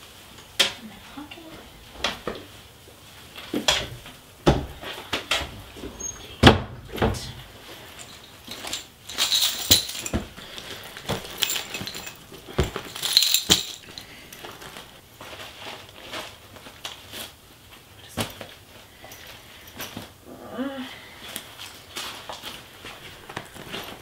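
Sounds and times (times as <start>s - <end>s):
rummaging clicks and rustles: 0.2s - 20.2s, 21.0s - 24.0s.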